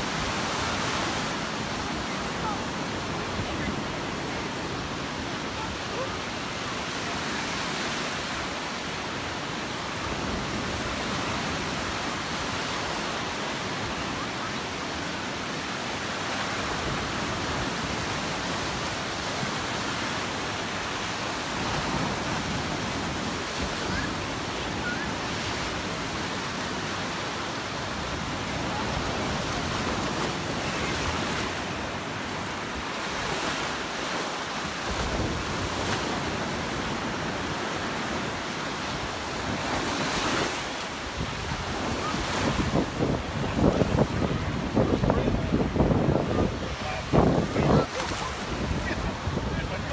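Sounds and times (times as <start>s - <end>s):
surf washing onto beach: 0.0s - 49.9s.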